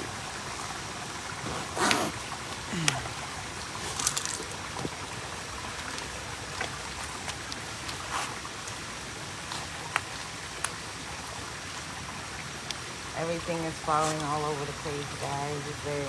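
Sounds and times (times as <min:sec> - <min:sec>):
stream running water: 0:00.0 - 0:16.0.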